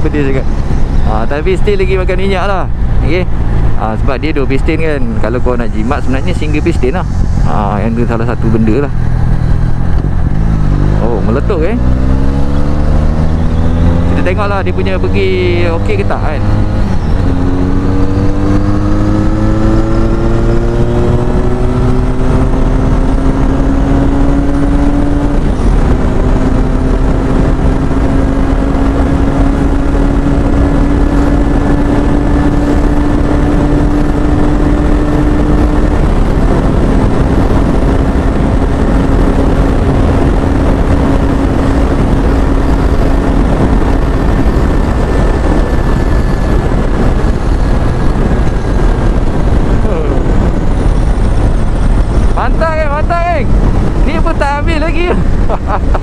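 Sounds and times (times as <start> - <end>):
loud wind rush: 0.0 - 56.0
motorcycle engine running hard: 0.0 - 56.0.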